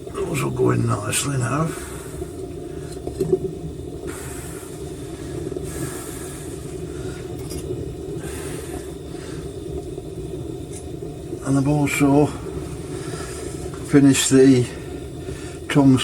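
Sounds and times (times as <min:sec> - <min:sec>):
torch burner rumbling hiss: 0:00.0 - 0:16.0.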